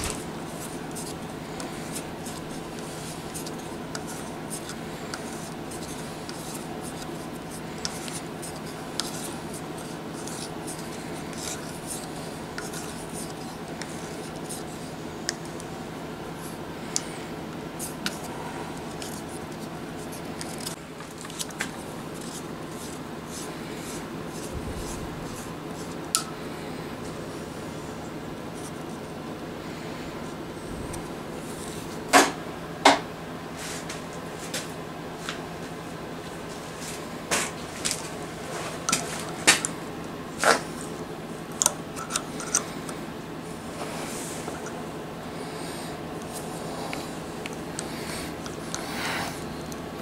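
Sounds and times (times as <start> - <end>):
steady background hum: 0.0 - 50.0.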